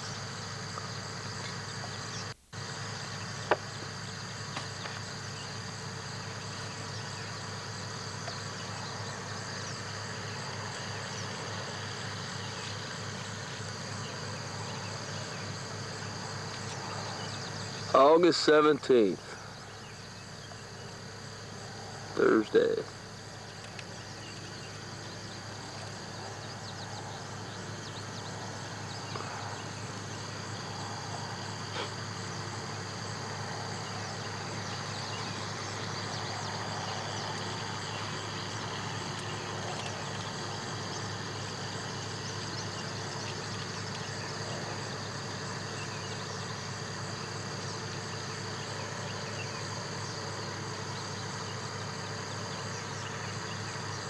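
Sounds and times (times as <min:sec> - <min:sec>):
insects trilling and chirping: 0:00.0 - 0:54.0
low steady hum: 0:00.0 - 0:54.0.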